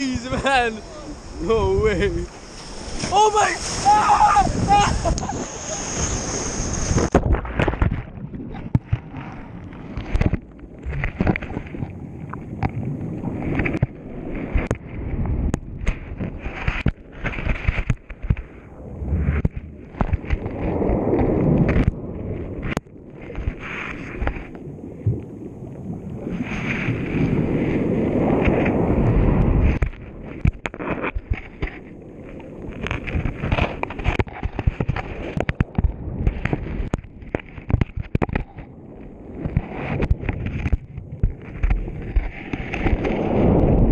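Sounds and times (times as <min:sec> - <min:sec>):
muffled underwater rumble: 0:03.8 - 0:43.9.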